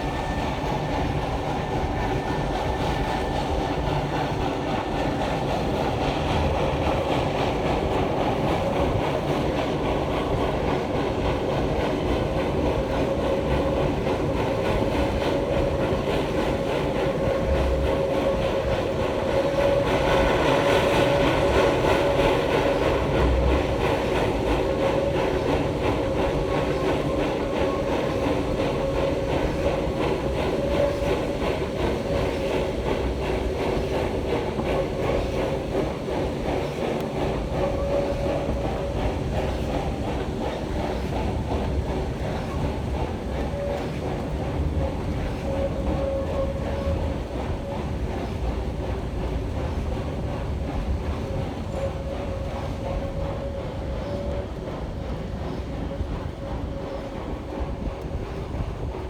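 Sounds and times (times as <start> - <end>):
train wheels rumbling on rails: 0.0 - 59.0
wheels clicking on track: 0.0 - 59.0.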